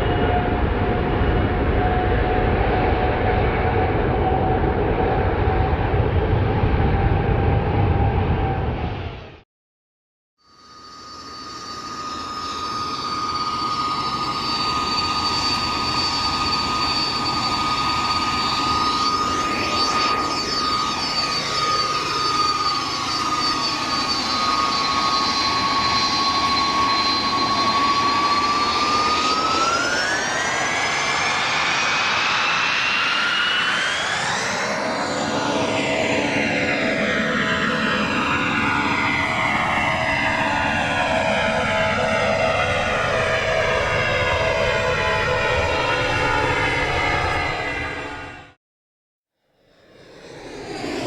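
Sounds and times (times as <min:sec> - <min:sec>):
jet engines whining: 0:00.0 - 0:09.4, 0:10.6 - 0:48.6, 0:49.6 - 0:51.0.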